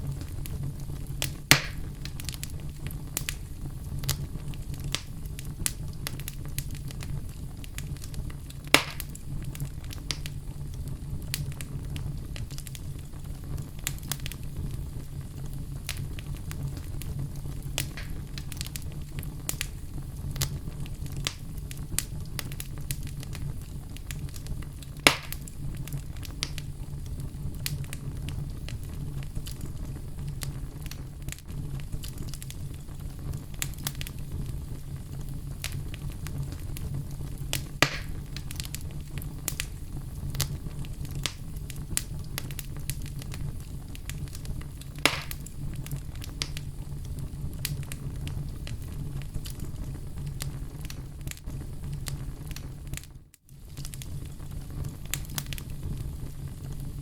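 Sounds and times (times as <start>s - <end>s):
logs burning in fireplace: 0.0s - 57.0s
loud pops of fire: 0.0s - 57.0s.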